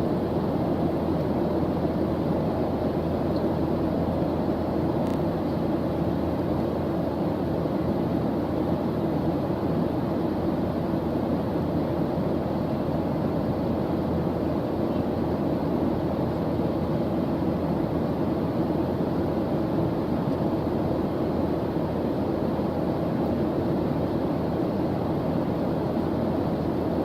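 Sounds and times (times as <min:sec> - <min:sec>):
white noise: 0:00.0 - 0:27.0.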